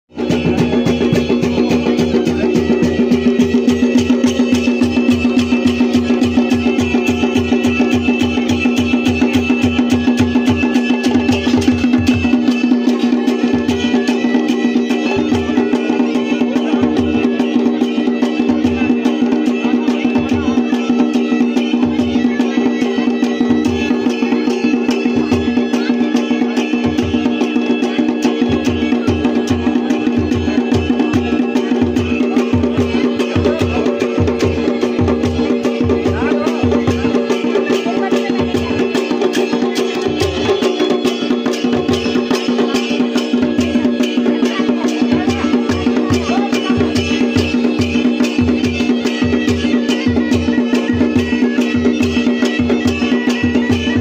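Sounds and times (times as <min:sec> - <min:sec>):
drums beating: 0:00.1 - 0:54.0
wind instrument droning melody: 0:00.2 - 0:54.0.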